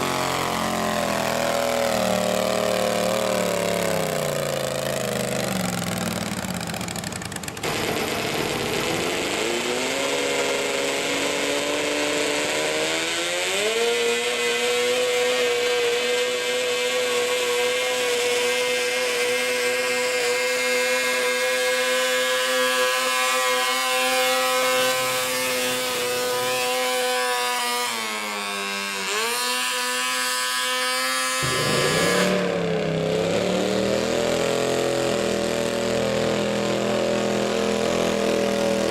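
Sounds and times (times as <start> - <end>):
lawn mower engine revving: 0.0 - 38.9.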